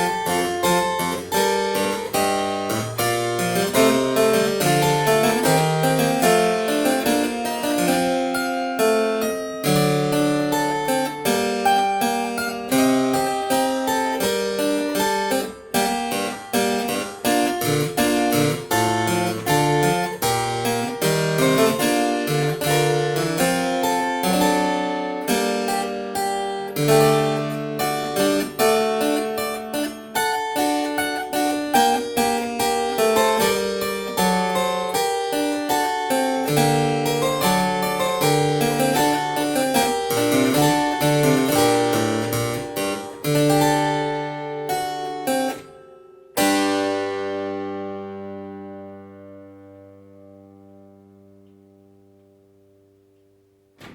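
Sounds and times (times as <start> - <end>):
harpsichord playing: 0.0 - 49.1.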